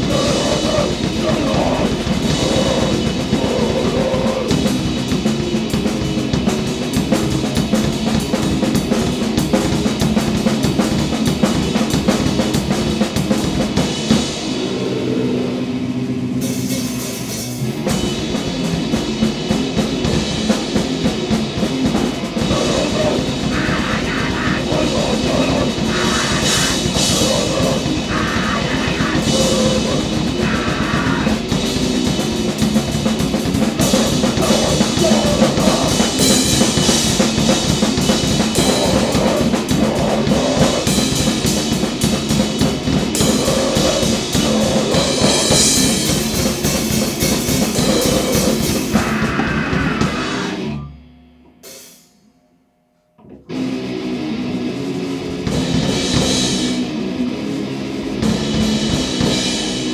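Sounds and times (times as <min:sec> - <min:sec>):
rapid drum-kit hits: 0:00.0 - 0:14.9, 0:15.6 - 0:50.6, 0:53.6 - 0:59.9
distorted guitar and bass: 0:00.0 - 0:51.0, 0:53.2 - 0:59.9.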